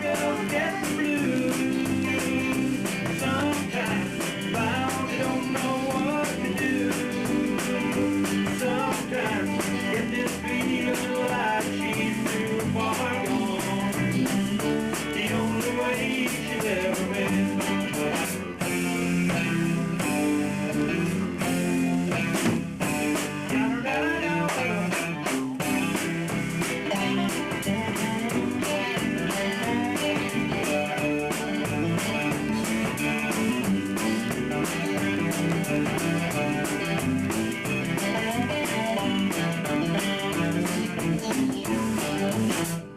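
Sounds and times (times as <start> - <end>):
drum kit beat: 0.0 - 42.9
guitars: 0.0 - 42.9.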